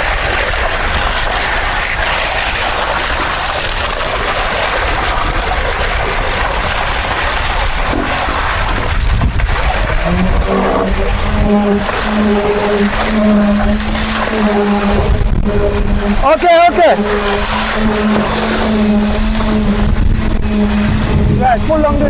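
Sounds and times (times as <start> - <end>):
machinery rumbling: 0.0 - 22.0
wind on microphone: 0.0 - 22.0.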